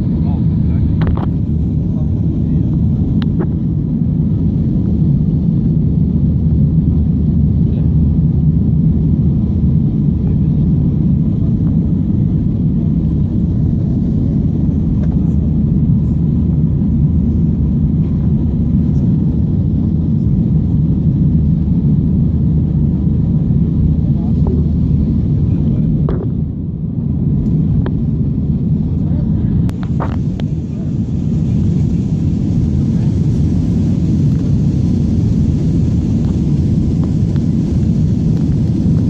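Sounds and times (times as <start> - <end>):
jet engine and airflow rumble: 0.0 - 39.0.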